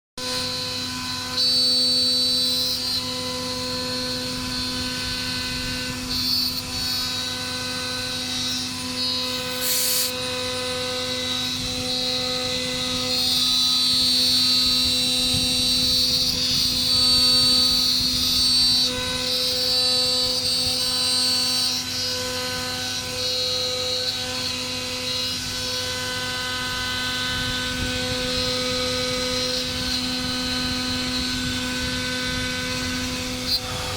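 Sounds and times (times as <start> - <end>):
machine whining and humming: 0.2 - 33.9.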